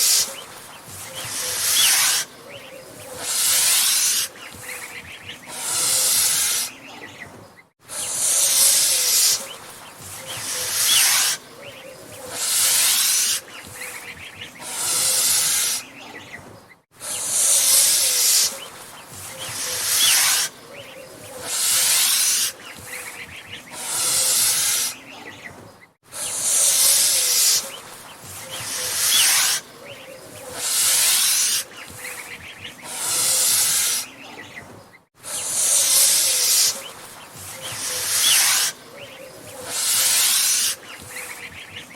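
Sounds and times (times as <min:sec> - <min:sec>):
goose hissing: 0:00.0 - 0:07.0, 0:07.8 - 0:16.1, 0:17.0 - 0:25.2, 0:26.1 - 0:34.4, 0:35.2 - 0:41.5.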